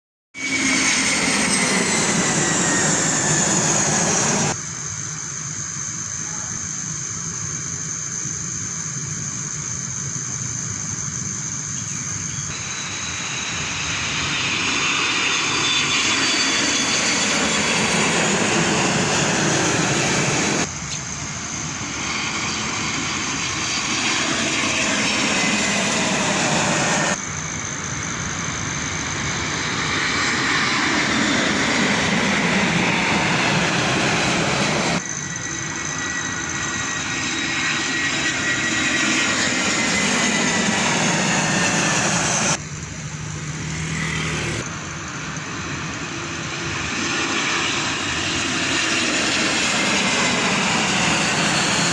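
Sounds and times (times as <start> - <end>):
airplane flying past: 0.4 - 4.7, 6.0 - 51.9.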